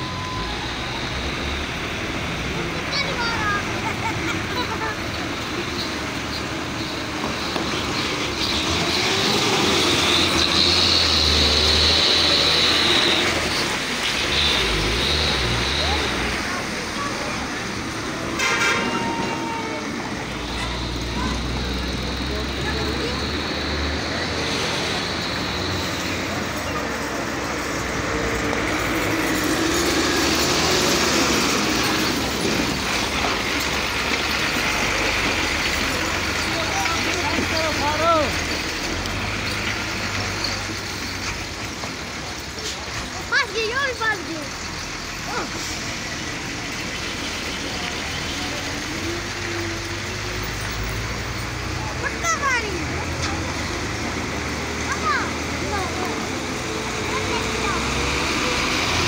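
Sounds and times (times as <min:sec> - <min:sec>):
heavy truck engine rumble: 0:00.0 - 0:59.0
truck driving through mud and water: 0:00.0 - 0:59.0
tyres on wet road: 0:00.0 - 0:59.0.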